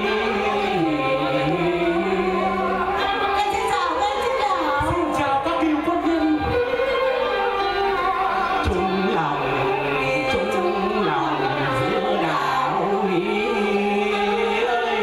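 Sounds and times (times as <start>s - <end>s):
woman singing into a microphone: 0.0s - 7.8s, 8.5s - 15.0s
traditional instruments playing: 0.0s - 15.0s.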